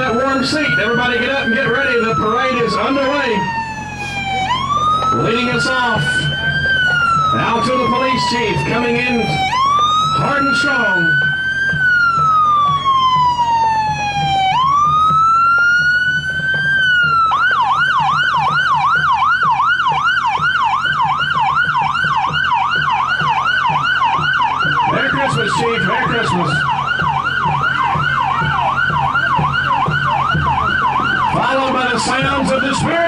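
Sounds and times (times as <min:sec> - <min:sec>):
police siren wail and yelp: 0:00.0 - 0:33.0.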